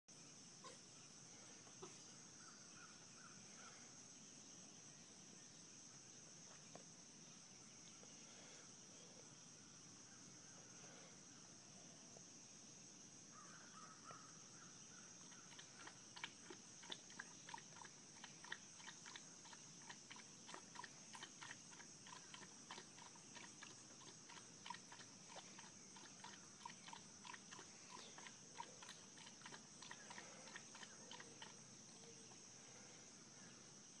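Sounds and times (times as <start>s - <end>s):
insects chirring: 0.1s - 34.0s.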